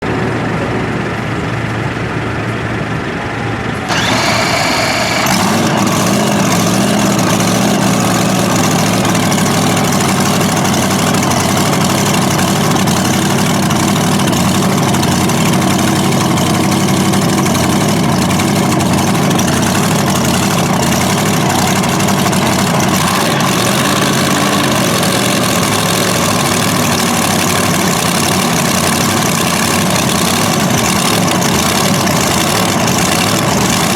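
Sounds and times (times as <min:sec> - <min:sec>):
pulling tractor engine running: 0:00.0 - 0:33.9.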